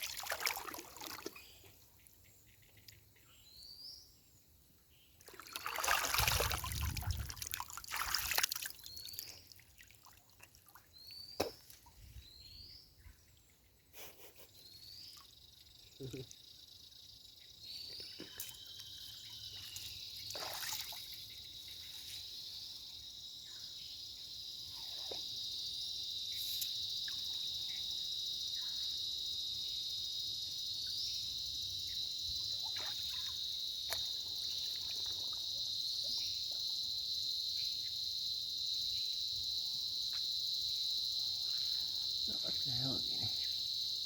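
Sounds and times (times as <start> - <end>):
insects droning: 0.0 - 4.0, 4.9 - 44.0.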